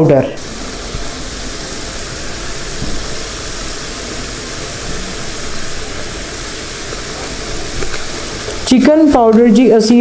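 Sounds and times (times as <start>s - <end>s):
sauce sizzling in a pan: 0.3s - 10.0s.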